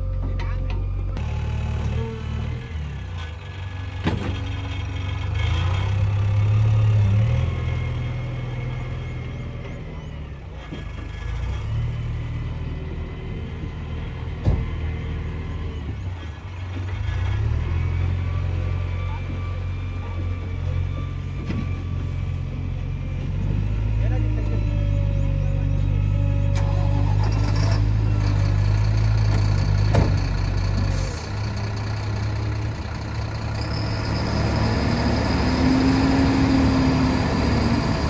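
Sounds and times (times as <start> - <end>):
heavy diesel engine revving: 1.2 - 38.0.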